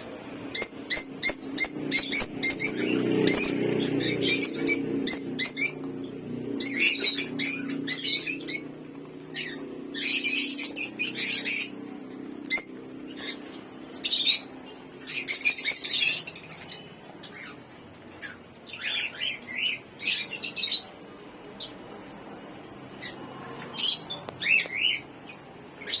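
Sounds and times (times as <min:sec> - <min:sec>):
parrots chirping and squawking: 0:00.0 - 0:26.0.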